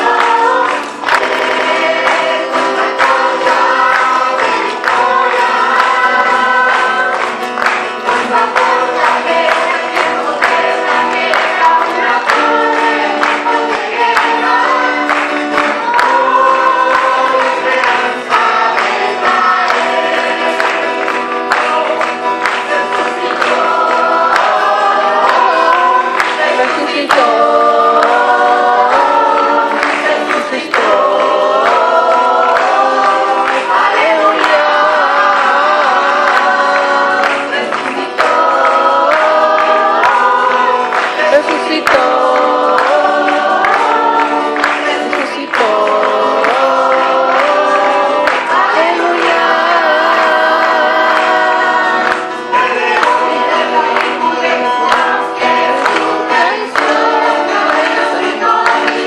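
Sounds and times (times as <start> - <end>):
church choir singing in harmony: 0.0 - 59.0.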